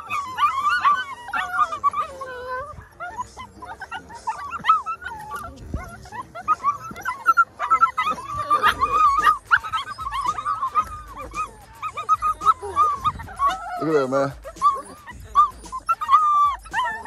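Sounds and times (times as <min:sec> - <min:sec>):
puppies whining and yelping: 0:00.0 - 0:17.0.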